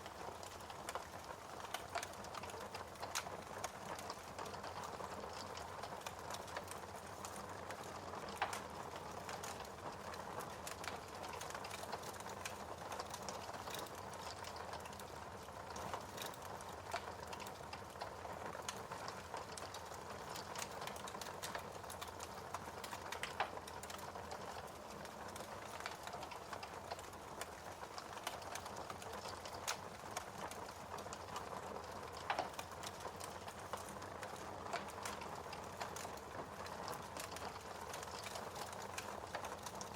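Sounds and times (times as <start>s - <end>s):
burning logs crackling and popping: 0.0s - 39.9s
wood fire burning: 0.0s - 39.9s.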